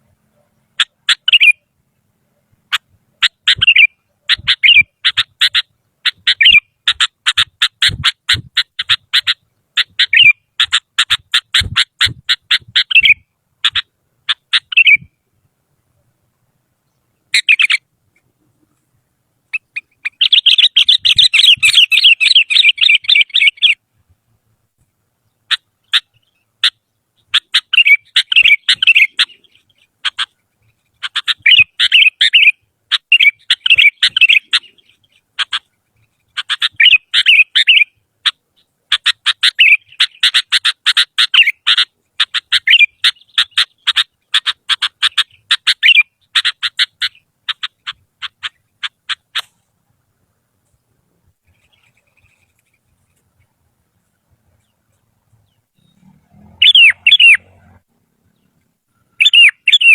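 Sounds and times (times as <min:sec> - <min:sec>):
bird chattering song: 0:00.2 - 0:15.3, 0:16.8 - 0:18.8, 0:19.5 - 0:23.8, 0:25.2 - 0:49.7, 0:50.6 - 0:59.9.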